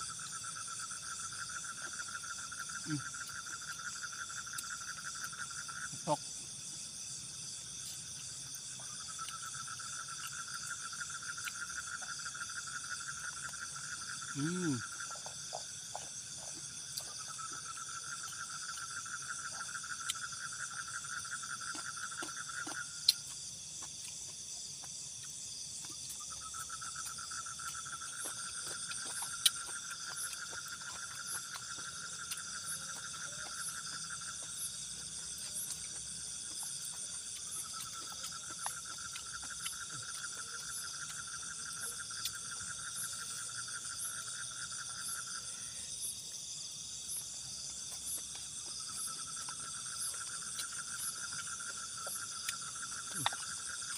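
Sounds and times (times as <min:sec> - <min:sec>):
crickets and insects chirping: 0:00.0 - 0:53.9
low pulsing insect trill: 0:00.0 - 0:53.9.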